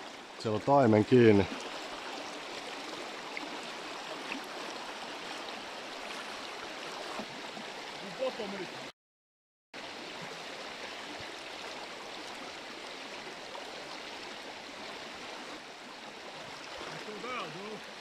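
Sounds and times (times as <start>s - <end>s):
river water rushing over rocks: 1.3s - 8.9s, 9.8s - 18.0s.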